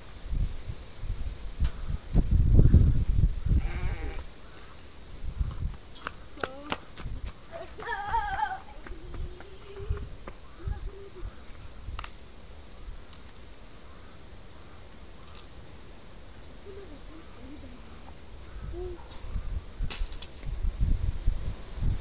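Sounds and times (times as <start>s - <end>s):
wind rumble on microphone: 0.0s - 13.1s, 16.6s - 22.0s.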